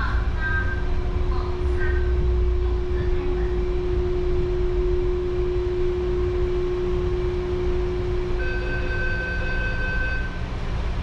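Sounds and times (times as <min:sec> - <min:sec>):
train rumble and whine: 0:00.0 - 0:11.0
higher tone with overtones: 0:00.6 - 0:10.4.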